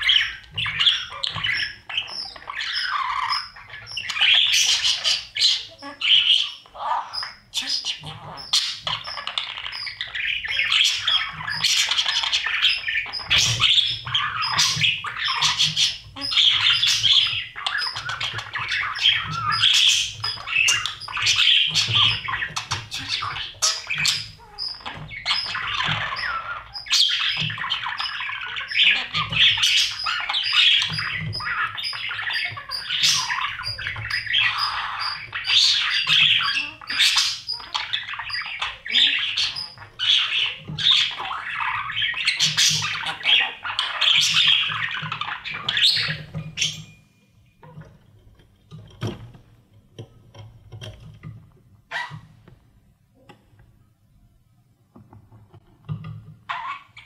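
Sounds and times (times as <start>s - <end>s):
budgies chirping and squawking: 0.0s - 52.6s, 54.9s - 57.0s.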